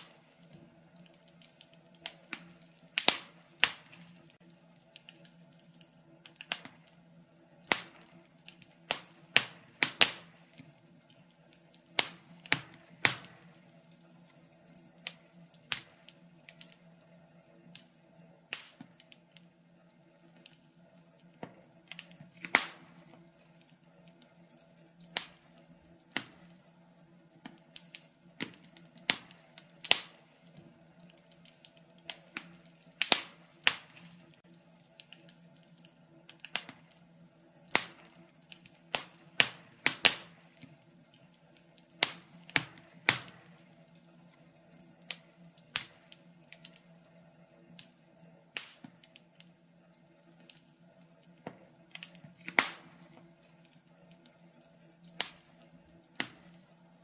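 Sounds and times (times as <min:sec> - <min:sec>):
faint steady hum: 0:00.0 - 0:57.0
wood fire crackling: 0:00.0 - 0:57.0.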